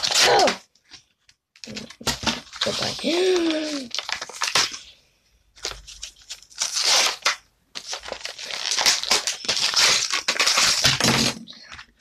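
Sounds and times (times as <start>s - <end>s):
plastic packaging crinkling: 0.0s - 4.9s, 5.5s - 12.0s.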